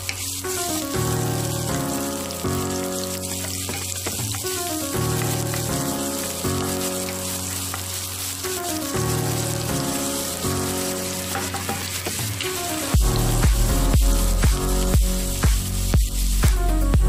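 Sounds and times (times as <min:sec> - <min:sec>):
background music with held notes: 0:00.0 - 0:17.0
onions sizzling in hot oil: 0:00.0 - 0:17.0.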